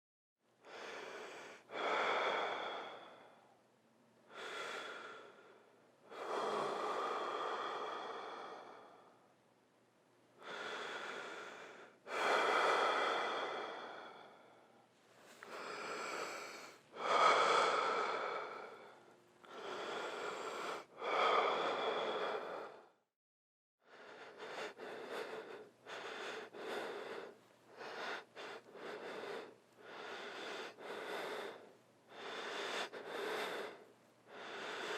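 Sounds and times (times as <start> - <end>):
person breathing: 0.6 - 3.6, 4.3 - 9.3, 10.4 - 23.1, 23.8 - 34.9.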